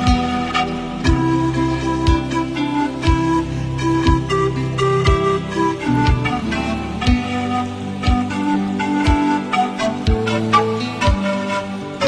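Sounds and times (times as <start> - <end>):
instrumental music with deep beat: 0.0 - 12.0.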